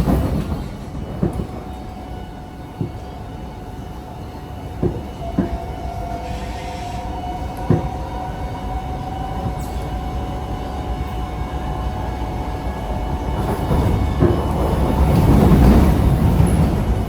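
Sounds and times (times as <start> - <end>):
metro car running rumble: 0.0 - 17.0.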